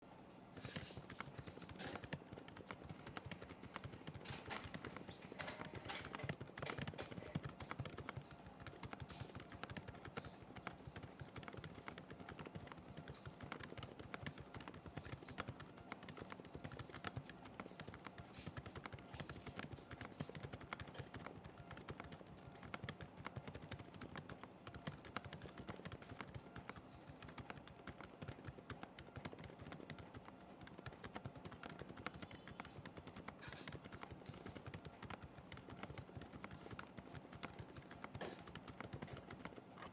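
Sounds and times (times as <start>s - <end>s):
mechanical keyboard typing: 0.6s - 39.9s.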